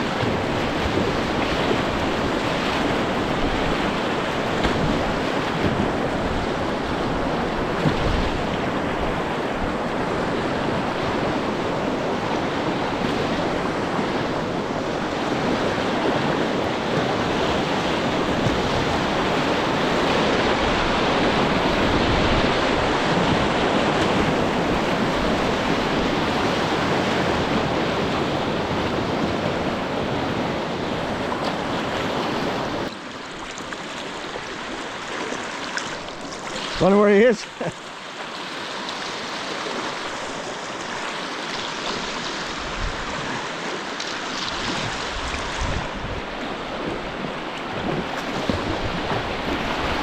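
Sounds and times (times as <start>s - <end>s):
river rushing over rapid: 0.0s - 50.0s.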